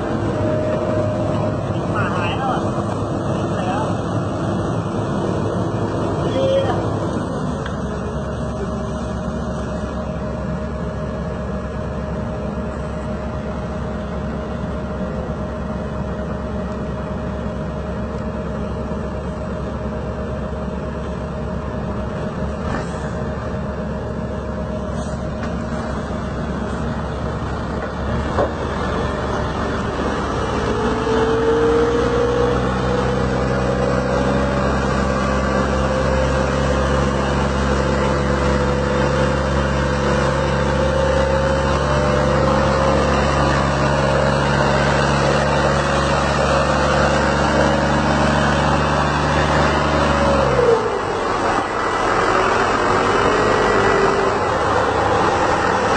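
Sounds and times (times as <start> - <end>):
heavy truck engine running: 0.0 - 55.9.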